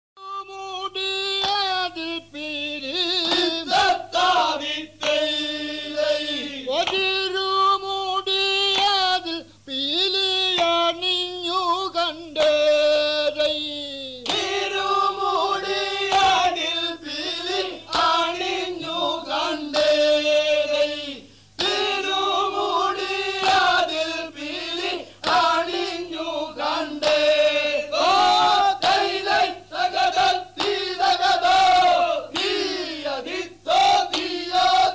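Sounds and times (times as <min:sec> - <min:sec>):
voices singing chant-like song: 0:00.2 - 0:34.9.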